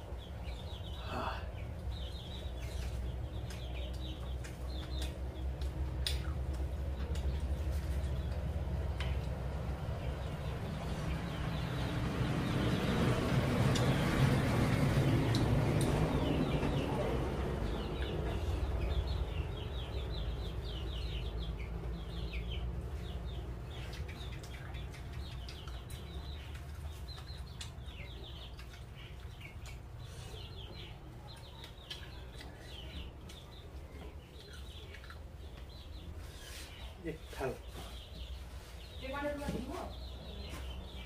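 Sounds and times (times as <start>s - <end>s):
birds chirping: 0.0s - 41.0s
passing vehicle rumble: 0.0s - 41.0s.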